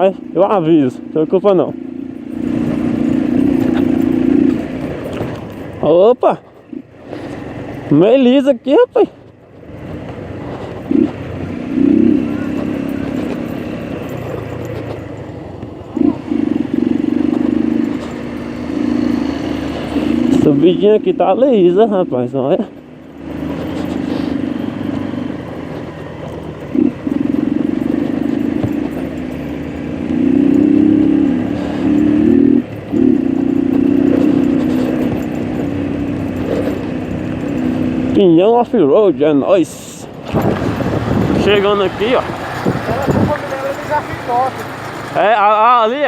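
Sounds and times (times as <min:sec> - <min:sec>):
small motorcycle engine revving: 0:00.0 - 0:06.1, 0:09.7 - 0:46.0.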